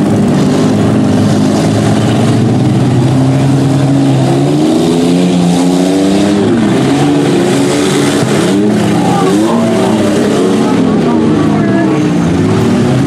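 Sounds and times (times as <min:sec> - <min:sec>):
minivan engines revving: 0:00.0 - 0:13.0.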